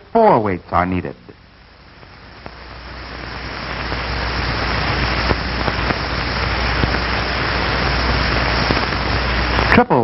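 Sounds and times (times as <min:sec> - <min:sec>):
wind tunnel airflow hiss: 0:01.2 - 0:10.0.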